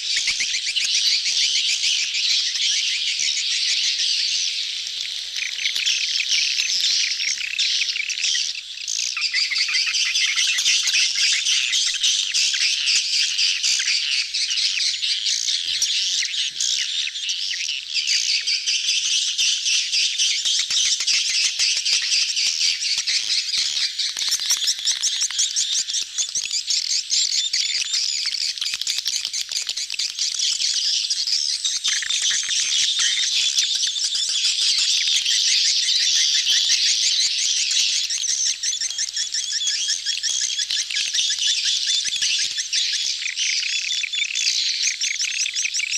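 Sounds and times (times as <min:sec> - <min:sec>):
swiftlets chirping and twittering: 0:00.0 - 0:45.9.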